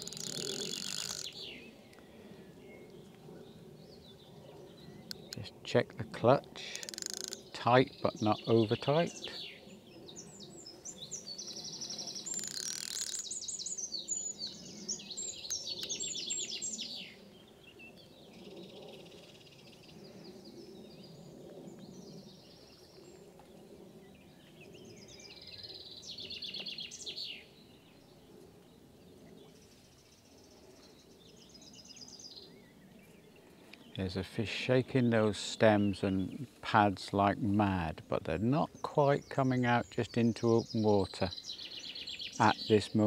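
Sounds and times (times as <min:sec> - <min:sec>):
songbirds trilling: 0:00.0 - 0:43.0.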